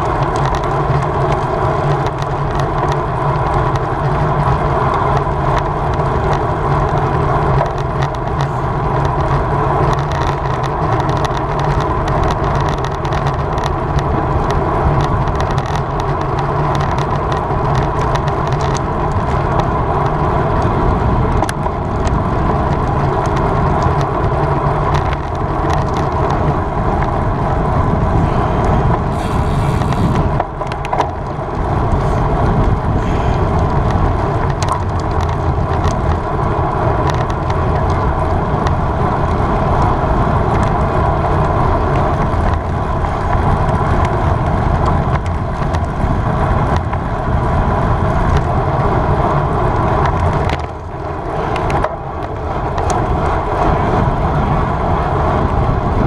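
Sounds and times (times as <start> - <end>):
bicycle ticks and rattles: 0.0 - 56.0
wind and road noise: 0.0 - 56.0.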